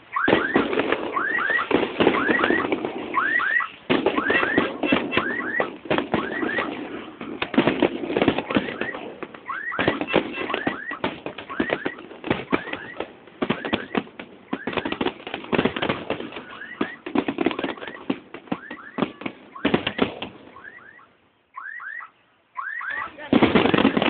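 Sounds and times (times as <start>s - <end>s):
fireworks popping and crackling: 0.0s - 21.0s, 22.9s - 24.0s
rising firework whistles: 0.0s - 22.0s.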